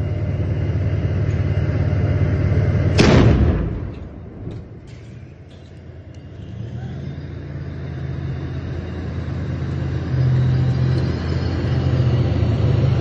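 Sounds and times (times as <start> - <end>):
tank engine droning: 0.0 - 13.0.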